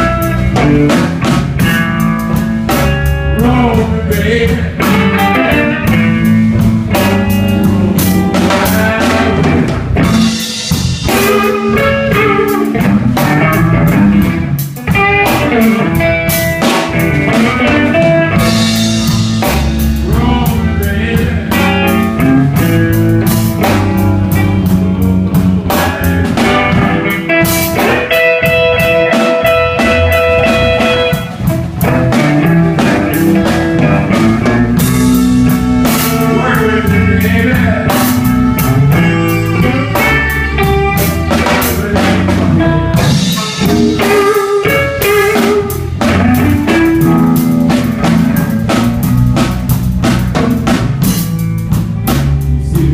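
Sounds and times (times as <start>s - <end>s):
blues guitar: 0.0s - 52.9s
drum kit: 0.0s - 52.9s.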